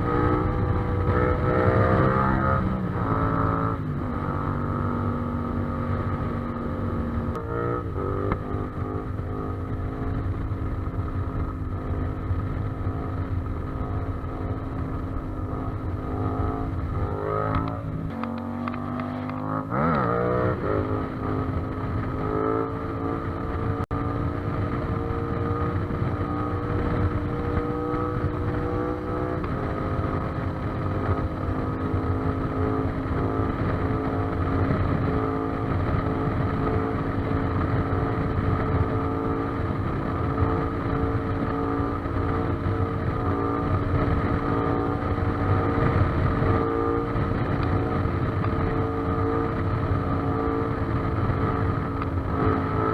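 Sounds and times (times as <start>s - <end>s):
motorcycle engine at speed: 0.0s - 52.9s
wind on microphone: 0.0s - 52.9s.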